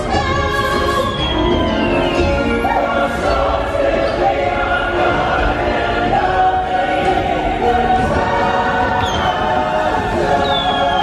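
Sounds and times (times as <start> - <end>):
choir singing long notes: 0.0 - 11.0
ride soundtrack music: 0.0 - 11.0.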